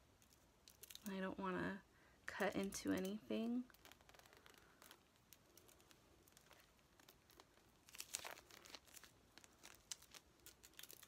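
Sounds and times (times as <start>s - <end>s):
plastic wrap crinkling: 0.0s - 1.2s, 2.3s - 11.0s.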